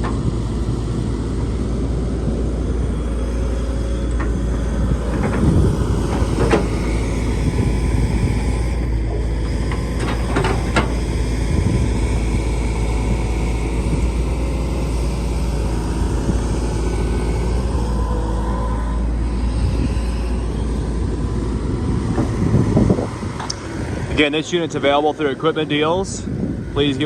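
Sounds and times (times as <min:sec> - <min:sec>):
excavator engine and hydraulics: 0:00.0 - 0:27.0.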